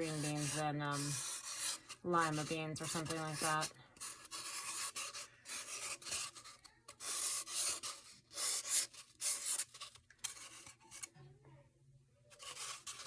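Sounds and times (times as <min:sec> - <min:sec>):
marker scratching on tube: 0:00.0 - 0:11.1, 0:12.3 - 0:13.0.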